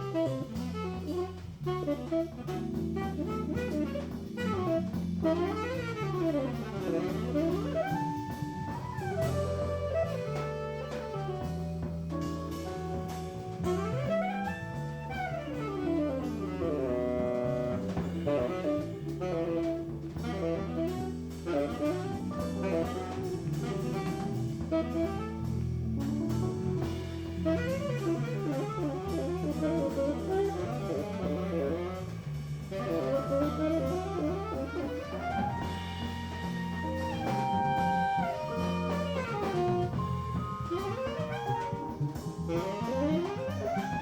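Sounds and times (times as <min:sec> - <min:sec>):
jazz quartet playing: 0:00.0 - 0:44.0.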